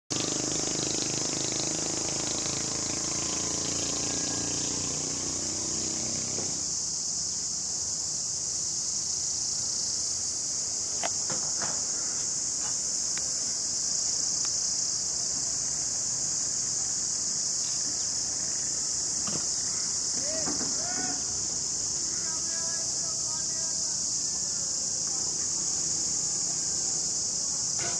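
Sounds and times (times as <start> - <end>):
high-pitched insect chorus: 0.1 - 27.9.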